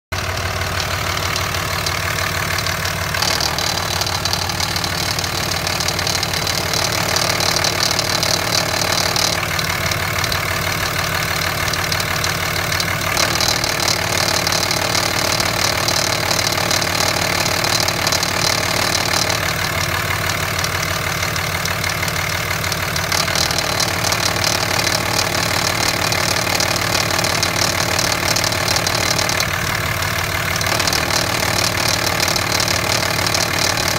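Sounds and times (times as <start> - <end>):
diesel engine idling with rattle: 0.1 - 33.9.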